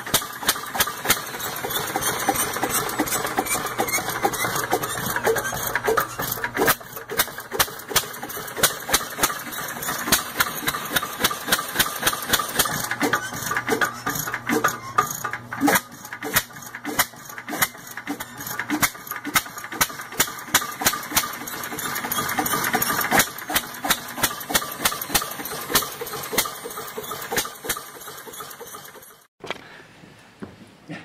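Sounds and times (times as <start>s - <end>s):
stationary engine knocks and pops: 0.0s - 28.0s
mechanical clatter: 0.0s - 29.3s.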